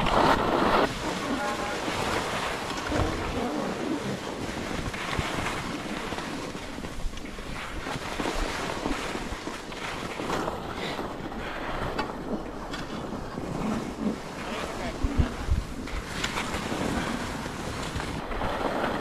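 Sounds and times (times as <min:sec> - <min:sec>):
skis scraping over snow: 0:00.0 - 0:19.0
wind on microphone: 0:00.0 - 0:19.0.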